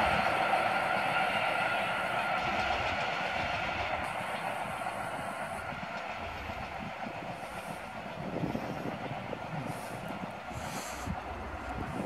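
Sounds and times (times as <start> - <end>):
diesel locomotive running: 0.0 - 12.0.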